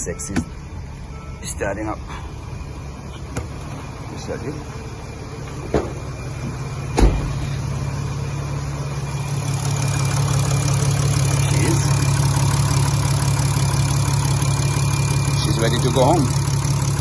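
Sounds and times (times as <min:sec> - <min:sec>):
diesel engine idling: 0:00.0 - 0:17.0
diesel engine starting: 0:00.0 - 0:17.0.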